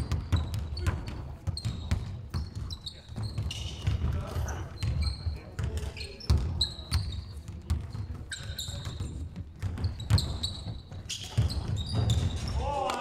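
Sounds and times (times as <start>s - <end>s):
basketball dribbling on wood floor: 0.0s - 12.5s
shoes squeaking on floor: 0.0s - 12.7s.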